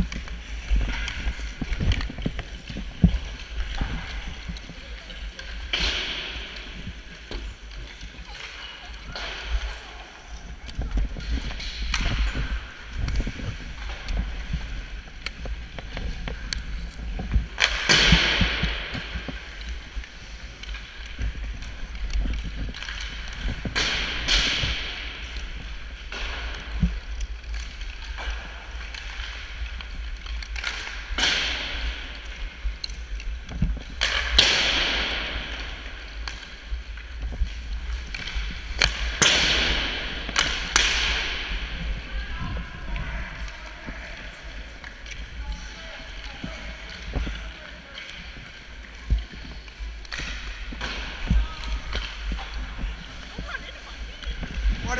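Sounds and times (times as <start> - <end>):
hockey sticks clicking on ice: 0.0 - 54.9.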